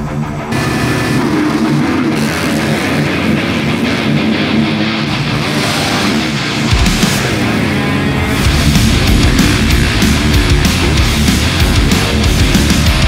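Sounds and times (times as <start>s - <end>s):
distorted electric guitar: 0.0s - 13.0s
drums: 0.0s - 13.0s
rock music: 0.0s - 13.0s.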